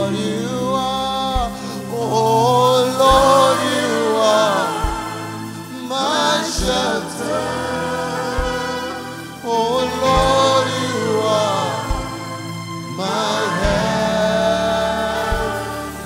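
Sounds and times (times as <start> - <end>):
soft low drum beat: 0.0 - 12.4, 13.1 - 16.0
instrumental accompaniment: 0.0 - 16.0
man singing lead: 0.0 - 16.0
women singing backing vocals: 0.0 - 16.0.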